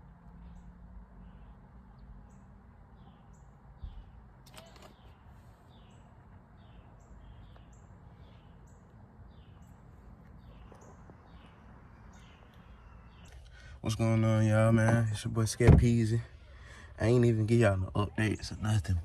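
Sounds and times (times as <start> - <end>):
bird chirping: 0.0 - 19.0
faint low outdoor rumble: 0.0 - 19.0.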